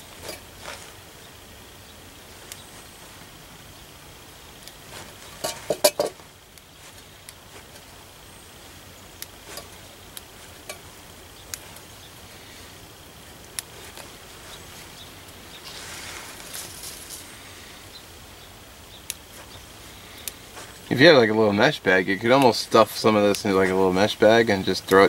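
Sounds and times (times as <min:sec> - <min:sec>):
light leaf rustling: 0:00.0 - 0:25.0.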